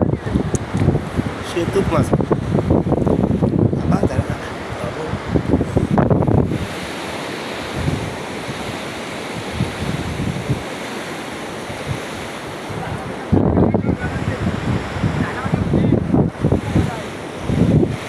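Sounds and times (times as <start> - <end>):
surf washing on beach: 0.0 - 18.0
wind rumbling on microphone: 0.0 - 18.0.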